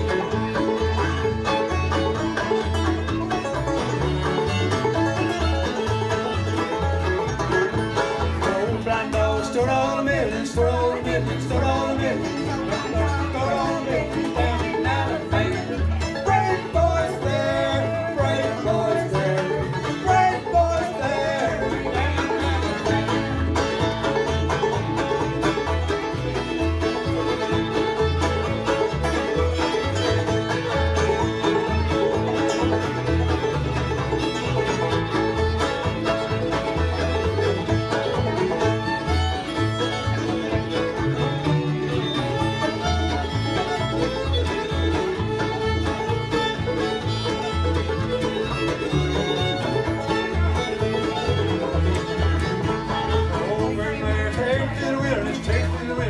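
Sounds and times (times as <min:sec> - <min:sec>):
string band playing: 0:00.0 - 0:56.0
upright bass plucking: 0:00.0 - 0:56.0.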